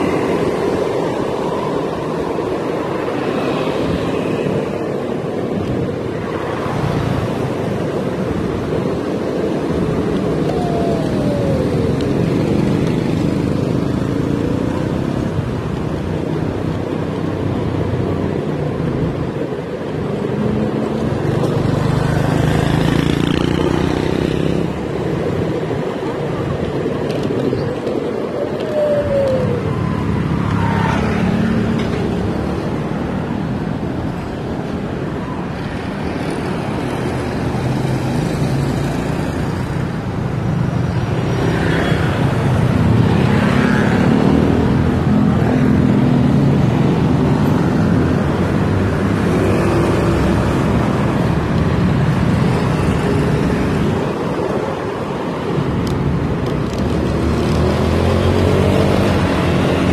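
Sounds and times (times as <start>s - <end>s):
city road traffic: 0.0s - 59.9s
vehicles passing by: 0.0s - 59.9s.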